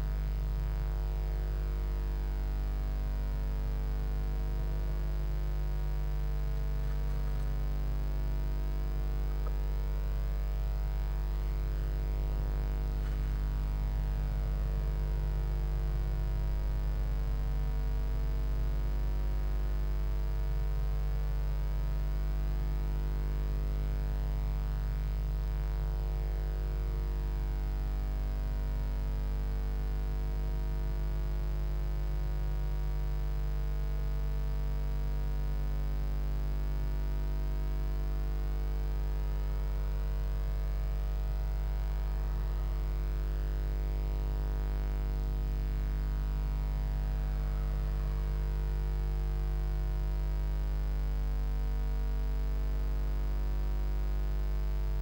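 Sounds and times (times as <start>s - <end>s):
low electrical mains hum: 0.0s - 55.0s.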